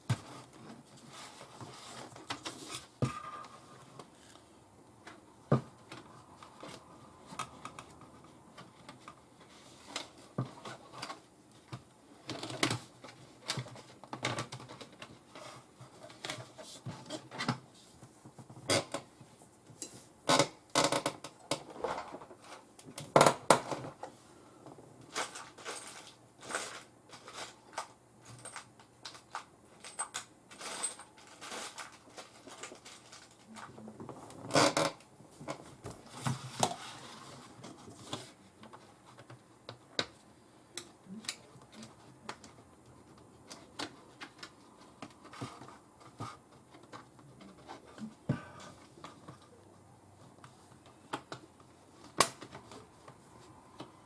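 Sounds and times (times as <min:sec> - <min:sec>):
clicks and knocks of handling objects: 0:05.0 - 0:40.2, 0:40.8 - 0:53.2.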